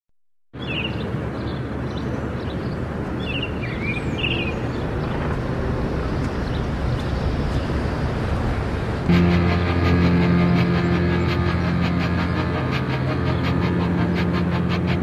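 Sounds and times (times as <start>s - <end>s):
outdoor background noise: 0.6s - 15.0s.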